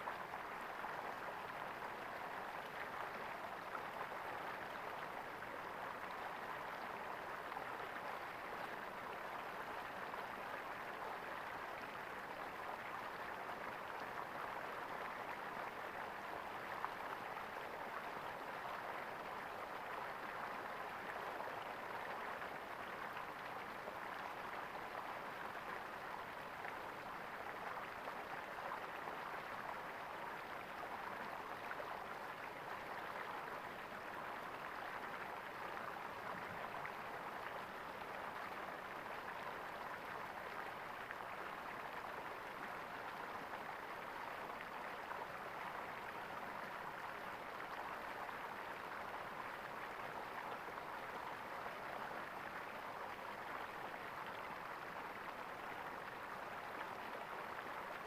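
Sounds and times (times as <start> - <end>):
flowing water gurgling: 0.0 - 58.0.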